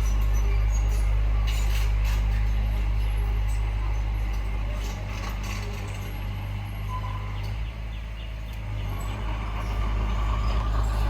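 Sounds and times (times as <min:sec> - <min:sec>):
heavy diesel machinery droning: 0:00.0 - 0:11.0.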